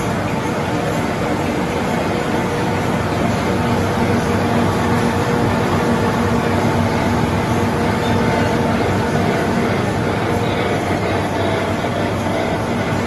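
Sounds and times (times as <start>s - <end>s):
printing machine running: 0.0s - 13.0s.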